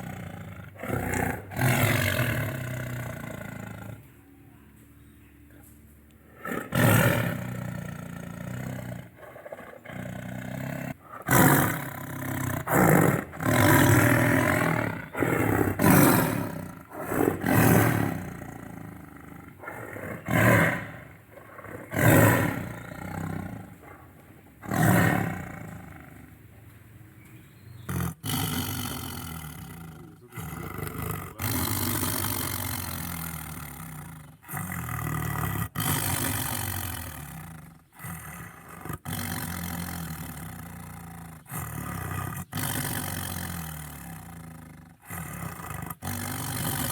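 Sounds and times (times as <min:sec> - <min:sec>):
tiger roaring: 0:00.0 - 0:04.1, 0:06.2 - 0:26.5, 0:27.8 - 0:46.9
tiger growling: 0:00.0 - 0:04.3, 0:05.6 - 0:46.9.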